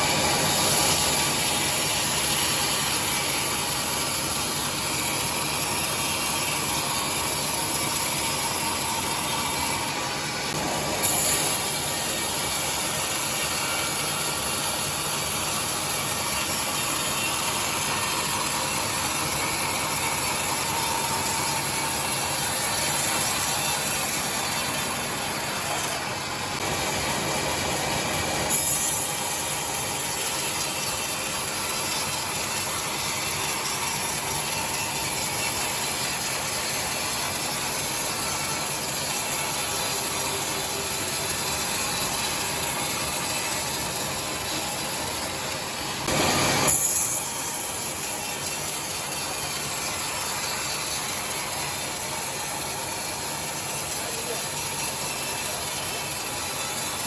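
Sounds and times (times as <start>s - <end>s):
sawmill machinery clattering: 0.0s - 57.0s.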